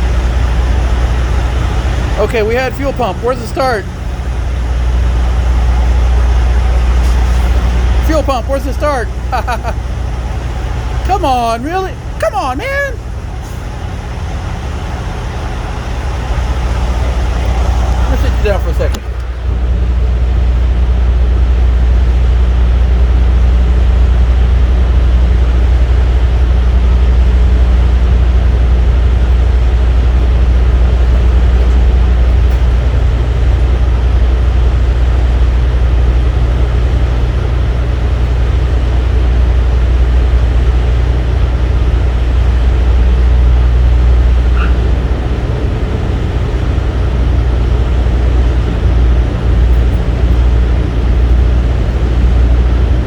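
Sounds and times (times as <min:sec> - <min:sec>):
low mechanical drone: 0:00.0 - 0:53.0.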